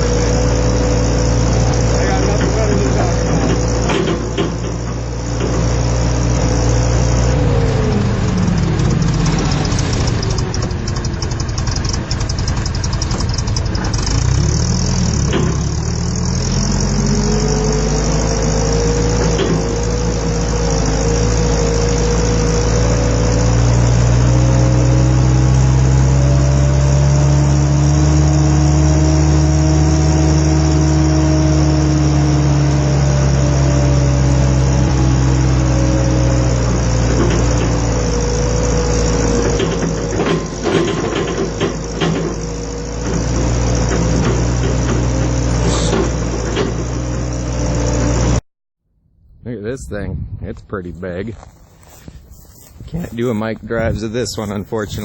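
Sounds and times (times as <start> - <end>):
forklift engine running: 0.0 - 48.4, 51.4 - 55.0.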